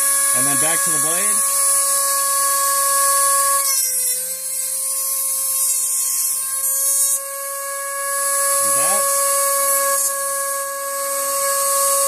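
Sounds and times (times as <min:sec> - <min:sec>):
rotary tool cutting wheel whine: 0:00.0 - 0:12.0.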